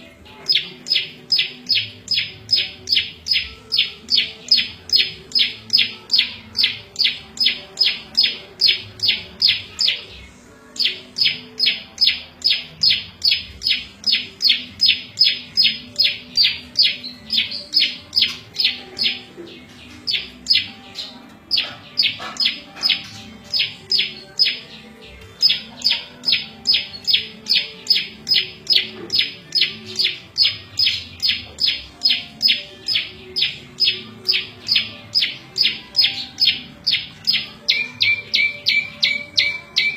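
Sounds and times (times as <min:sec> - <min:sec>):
bird high chirps: 0:00.2 - 0:39.9.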